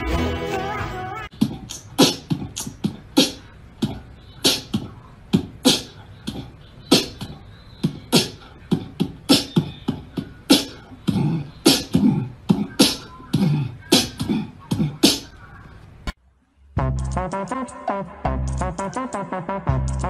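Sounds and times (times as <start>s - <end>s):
beatbox-style background music: 0.0s - 16.2s, 16.8s - 20.0s.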